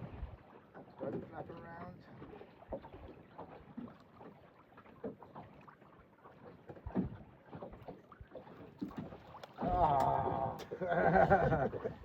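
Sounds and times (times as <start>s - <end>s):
water lapping at a hull: 0.0s - 12.0s.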